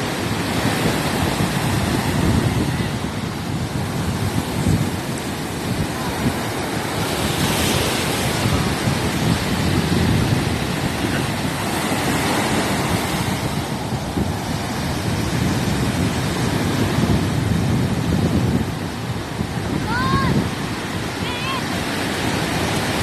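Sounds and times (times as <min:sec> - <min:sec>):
waves breaking on a beach: 0:00.0 - 0:23.0.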